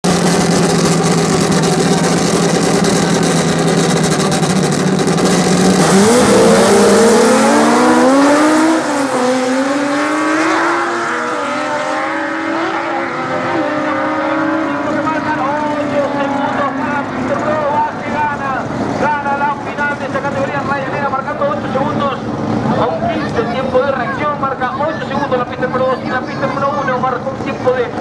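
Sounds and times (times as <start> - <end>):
race car engines idling: 0.0 - 28.0
race cars accelerating away: 0.1 - 23.4.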